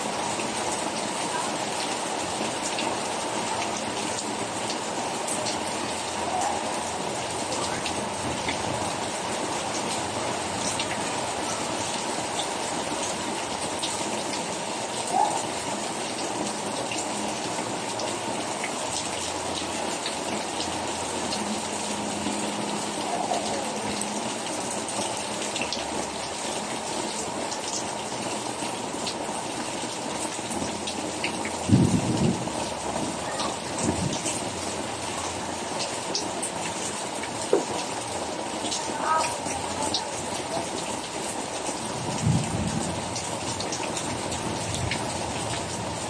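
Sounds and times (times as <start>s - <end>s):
rain falling steadily: 0.0s - 46.0s.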